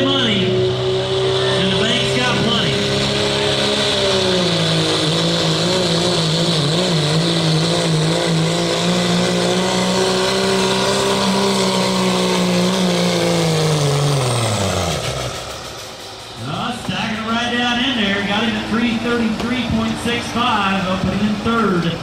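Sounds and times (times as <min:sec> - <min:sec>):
diesel truck engine at full throttle: 0:00.0 - 0:22.0.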